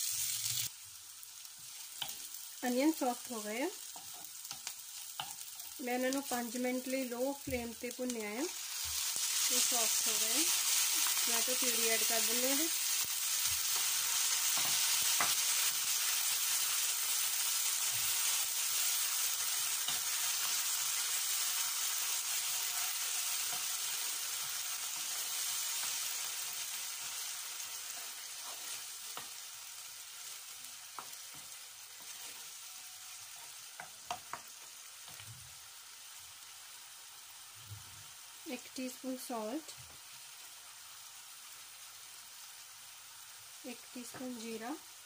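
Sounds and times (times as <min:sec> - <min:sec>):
onions sizzling in a wok: 0:00.0 - 0:45.0.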